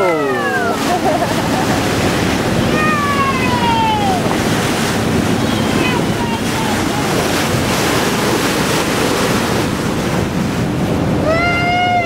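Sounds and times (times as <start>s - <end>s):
ship bow wash rushing: 0.0s - 12.0s
wind on microphone: 0.0s - 12.0s.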